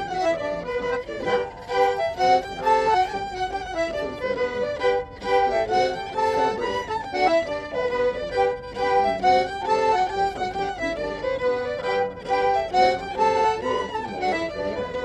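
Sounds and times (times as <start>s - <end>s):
folk dance tune on acoustic instruments: 0.0s - 15.0s.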